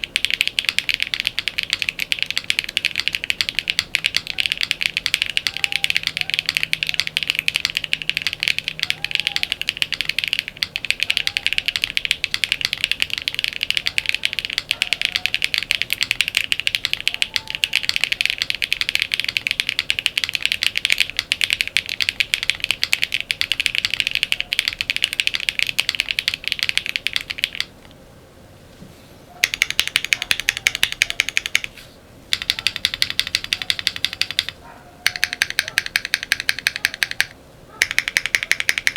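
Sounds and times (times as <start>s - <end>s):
fast typing on mechanical keyboard: 0.0s - 27.8s, 29.4s - 38.9s.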